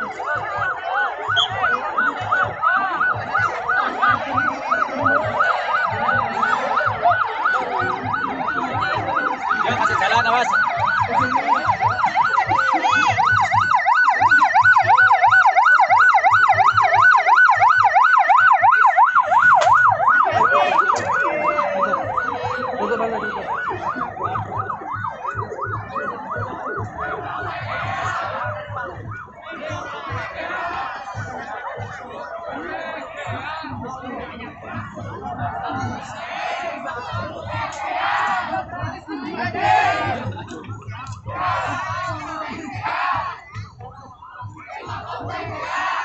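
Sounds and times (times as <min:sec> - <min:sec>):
ambulance siren yelping: 0:00.0 - 0:46.0.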